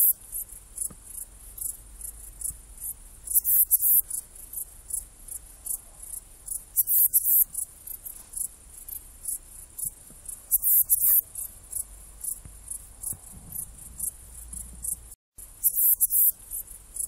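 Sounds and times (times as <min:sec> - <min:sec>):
bush-cricket chirping: 0:00.0 - 0:17.0.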